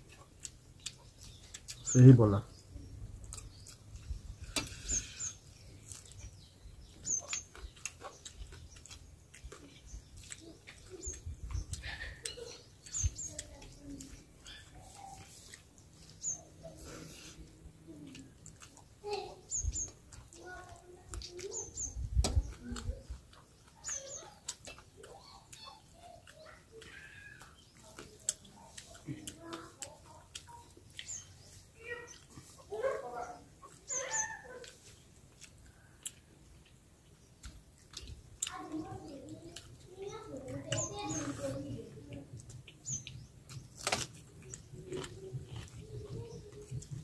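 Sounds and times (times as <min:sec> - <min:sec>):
chewing and lip-smacking: 0:00.0 - 0:02.0, 0:02.6 - 0:47.0
small bird chirping: 0:00.0 - 0:47.0.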